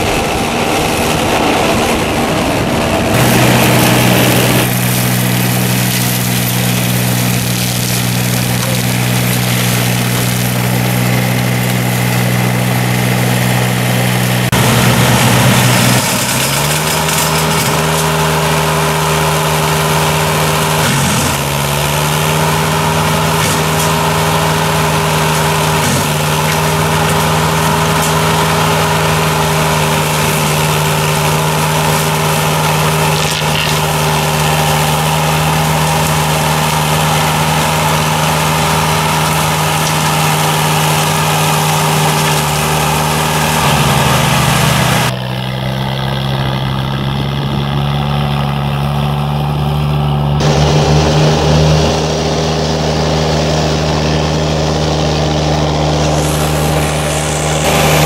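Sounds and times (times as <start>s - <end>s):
flail mulcher running: 0.0s - 58.0s.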